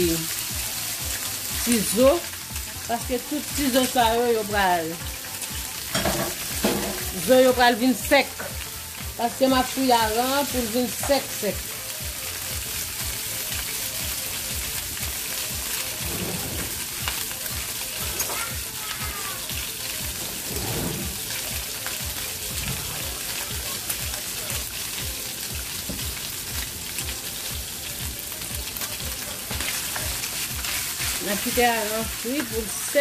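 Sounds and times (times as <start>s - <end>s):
fish sizzling in hot oil: 0.0s - 33.0s.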